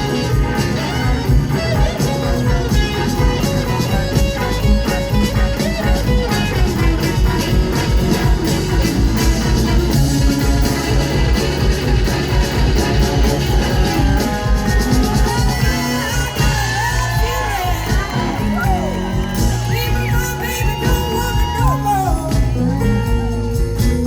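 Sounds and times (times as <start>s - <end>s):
bass guitar: 0.0s - 24.0s
drums beat: 0.0s - 24.0s
electric guitar lead: 0.0s - 24.0s.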